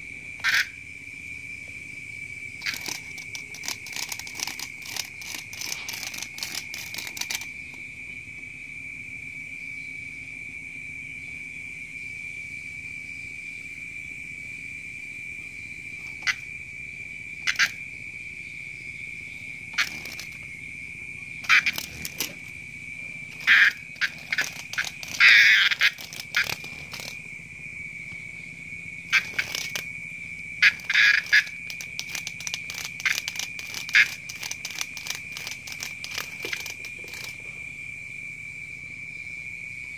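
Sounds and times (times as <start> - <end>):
high-pitched insect trill: 0.0 - 39.9.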